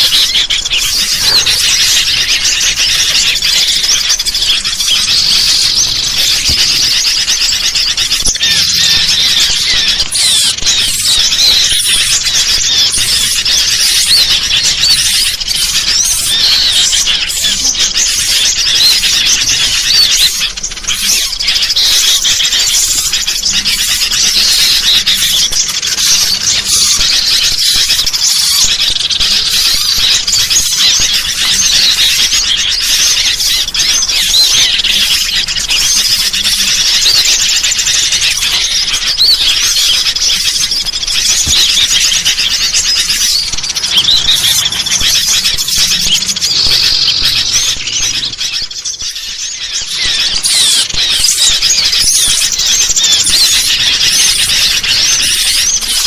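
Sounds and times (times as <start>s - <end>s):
chatter of bird calls: 0.0s - 56.0s.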